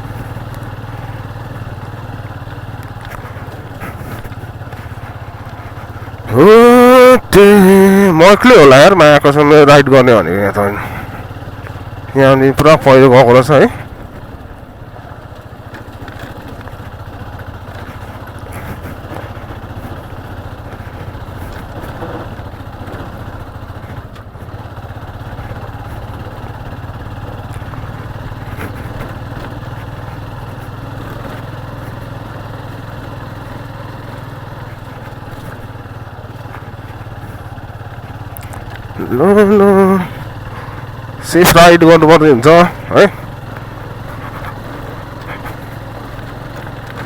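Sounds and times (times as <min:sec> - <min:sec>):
motorcycle engine idling: 0:00.0 - 0:47.0.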